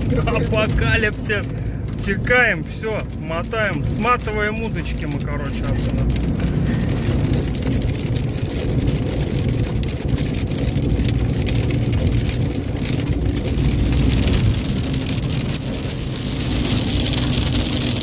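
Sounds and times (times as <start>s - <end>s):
car engine and road rumble: 0.0s - 18.0s
rain hitting a car: 0.0s - 18.0s.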